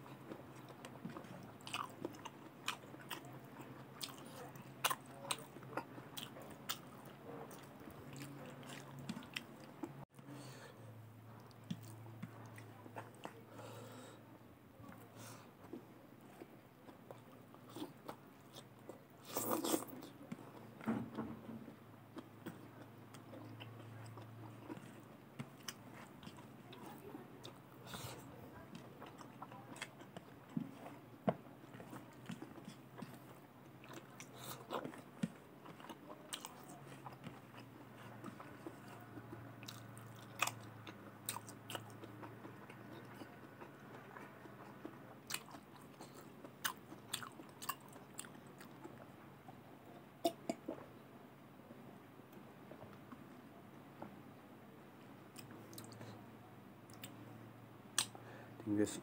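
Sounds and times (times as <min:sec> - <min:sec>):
chewing and crunching food: 0:00.0 - 0:51.0, 0:55.0 - 0:58.9.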